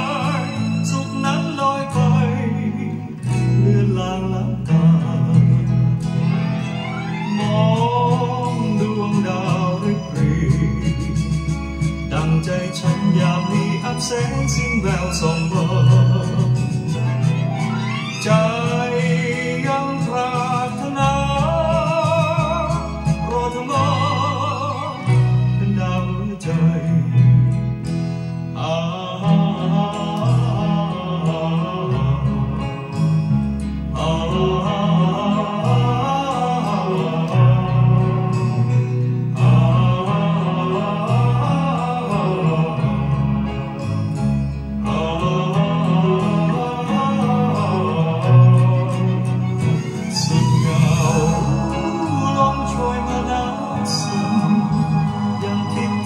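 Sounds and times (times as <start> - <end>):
band music from vinyl record: 0.0 - 56.0.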